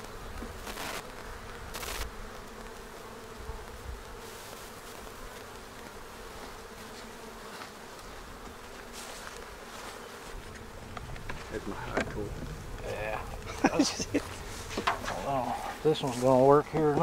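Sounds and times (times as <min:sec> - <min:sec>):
honey bees buzzing: 0:00.0 - 0:17.0.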